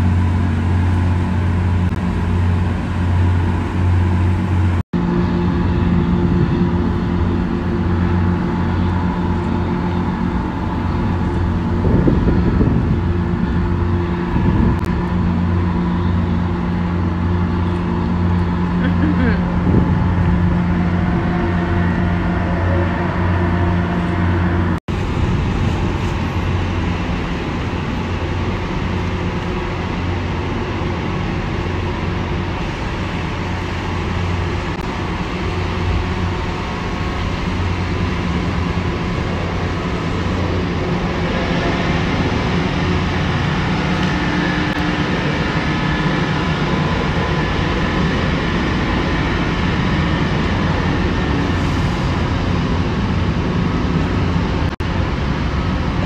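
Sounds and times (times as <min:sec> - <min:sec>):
diesel engines droning: 0:00.0 - 0:56.0.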